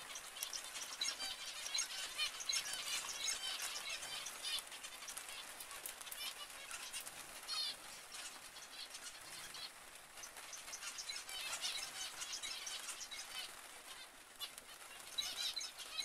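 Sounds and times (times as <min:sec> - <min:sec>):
finches chirping: 0:00.0 - 0:14.1, 0:14.7 - 0:16.0.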